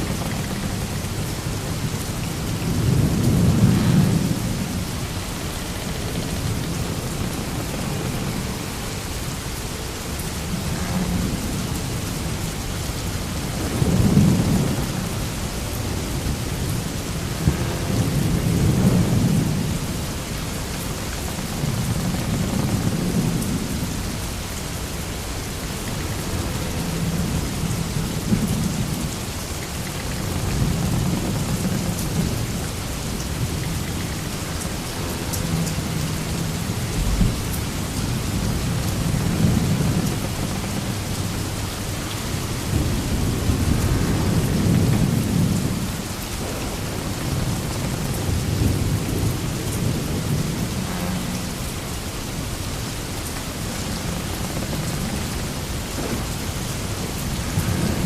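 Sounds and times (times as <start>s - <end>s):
rain-like hiss: 0.0s - 58.0s.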